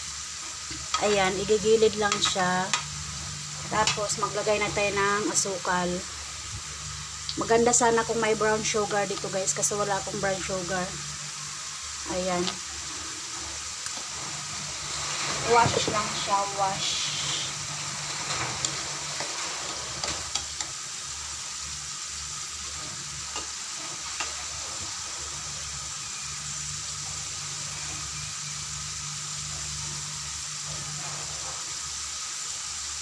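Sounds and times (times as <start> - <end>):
oil sizzling in a wok: 0.0 - 33.0.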